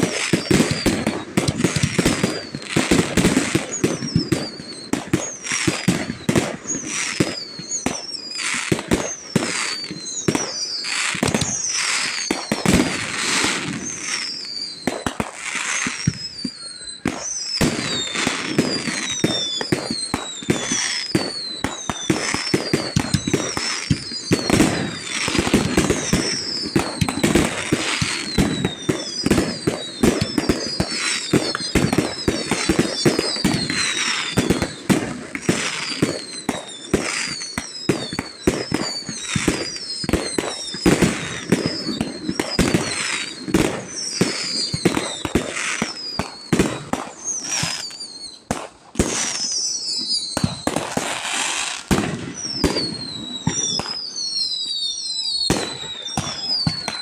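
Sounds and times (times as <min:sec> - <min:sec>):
fireworks bangs and crackling: 0:00.0 - 0:57.0
fireworks whistles falling: 0:00.0 - 0:57.0.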